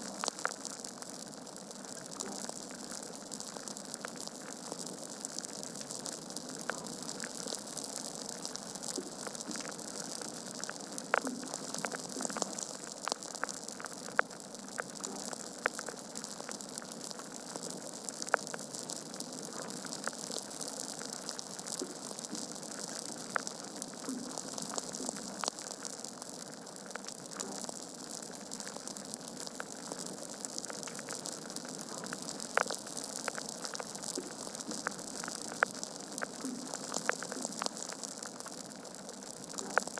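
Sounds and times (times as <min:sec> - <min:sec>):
logs crackling in fireplace: 0:00.1 - 0:39.9.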